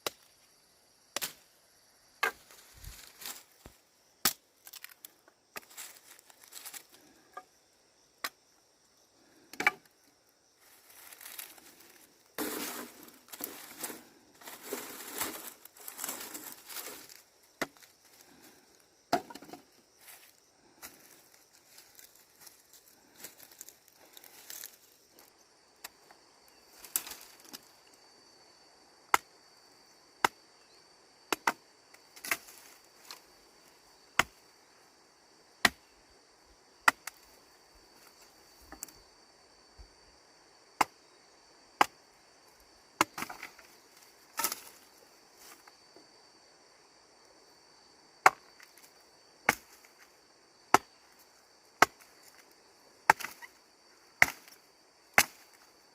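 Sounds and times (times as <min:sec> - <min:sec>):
high trill of insects: 0:00.1 - 0:40.4, 0:42.1 - 0:55.9.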